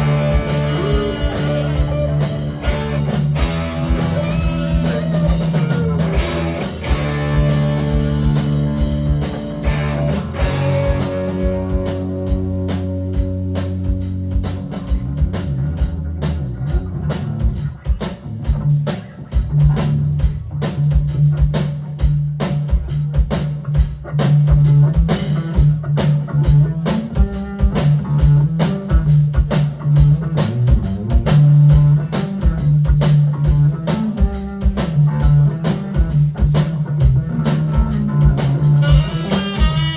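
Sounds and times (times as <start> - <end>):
band playing rock instrumental: 0.0 - 39.9.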